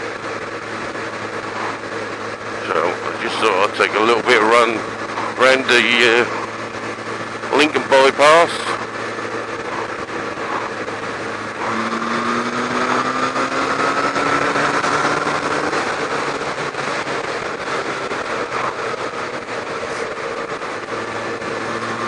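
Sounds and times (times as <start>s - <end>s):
motorcycle engine accelerating: 0.0s - 22.0s
wind and road noise: 0.0s - 22.0s.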